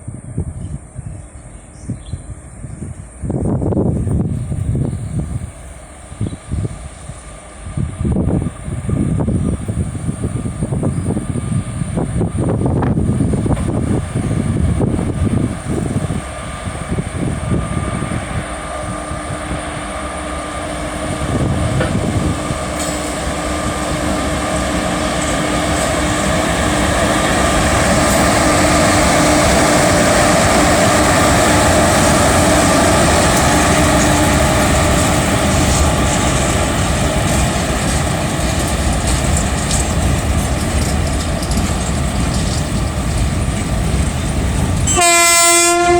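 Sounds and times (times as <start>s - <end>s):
freight train rumbling past: 0.0s - 45.9s.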